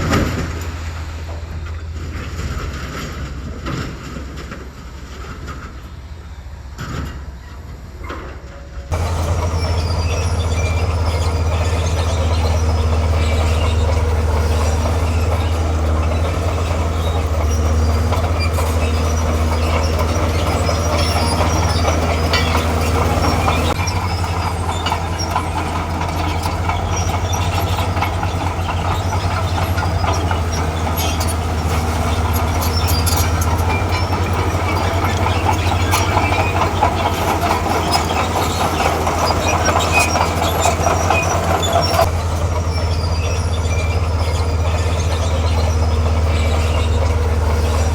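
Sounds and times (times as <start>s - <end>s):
diesel engine running under load: 0.0s - 8.2s, 8.9s - 47.9s
crawler tracks clanking and squeaking: 0.0s - 47.9s.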